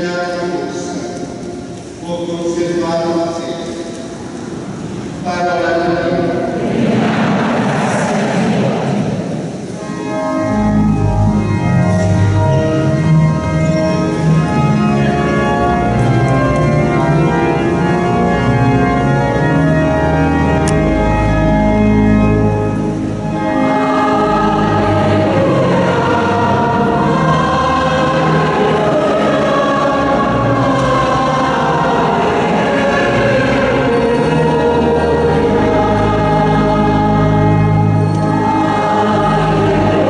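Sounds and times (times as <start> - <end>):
church organ chords: 0.0 - 6.6, 8.3 - 40.0
choir singing a hymn: 0.0 - 40.0.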